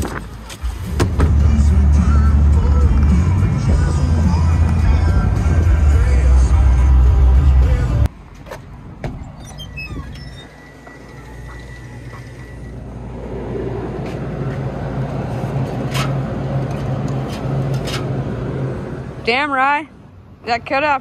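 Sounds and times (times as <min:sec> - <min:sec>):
hum of drink coolers: 0:00.0 - 0:19.8.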